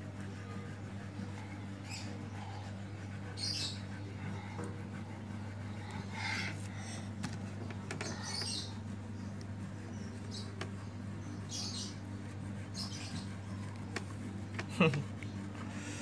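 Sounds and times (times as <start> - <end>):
scratchy colouring on paper: 0.0 - 16.0
steady low hum: 0.0 - 16.0.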